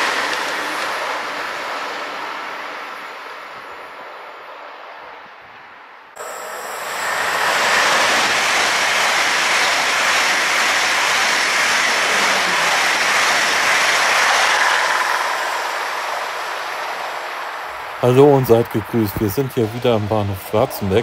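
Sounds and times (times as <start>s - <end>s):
high-speed train passing: 0.0s - 21.0s.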